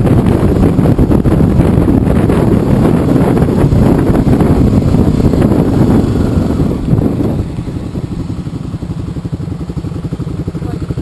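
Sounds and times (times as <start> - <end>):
motorcycle engine: 0.0 - 11.0
road noise: 0.0 - 11.0
wind buffeting microphone: 0.0 - 11.0.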